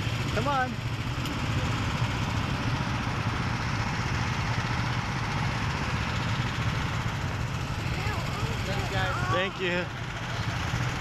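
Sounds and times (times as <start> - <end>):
go-kart engines idling: 0.0 - 11.0.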